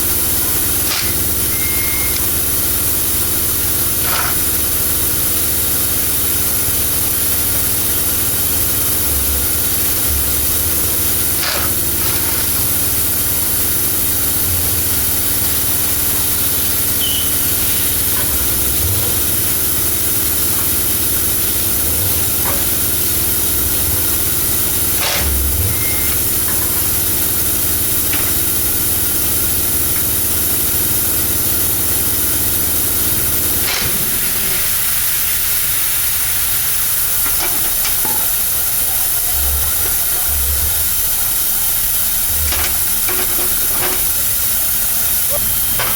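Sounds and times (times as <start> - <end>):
loud hiss: 0.0 - 45.9
machine drone: 0.0 - 45.9.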